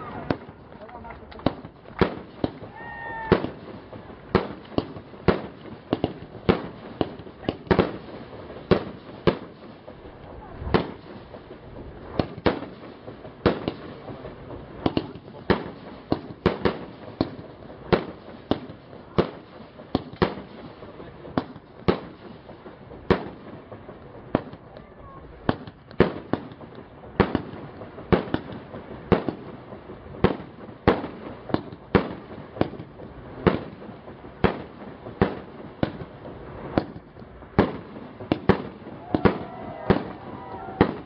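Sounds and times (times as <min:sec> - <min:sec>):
firework battery bangs: 0:00.0 - 0:41.0.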